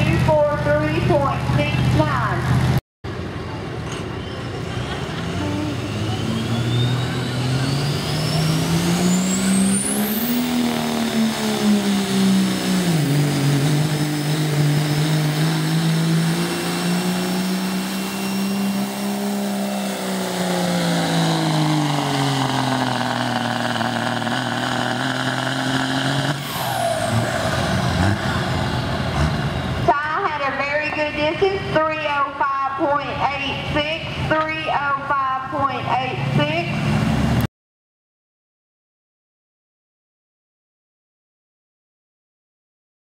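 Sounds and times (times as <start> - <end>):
diesel truck engine at full throttle: 0.0 - 37.5.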